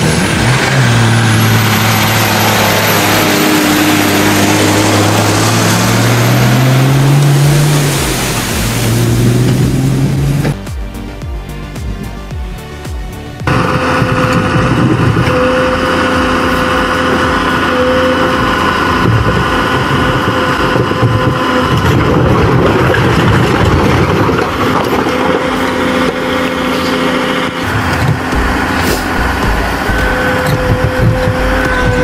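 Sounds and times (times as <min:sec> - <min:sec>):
diesel engine humming and whining: 0:00.0 - 0:32.0.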